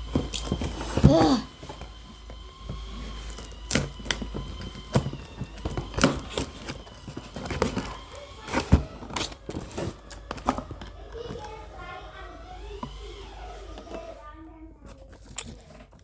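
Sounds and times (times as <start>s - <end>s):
plastic and cardboard packaging crinkling: 0.0s - 16.0s.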